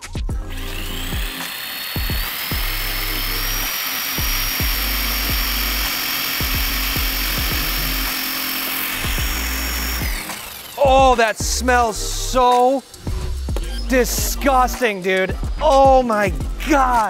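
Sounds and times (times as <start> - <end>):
background music with a beat: 0.0 - 3.0, 3.7 - 17.0
power drill whining: 0.3 - 14.2.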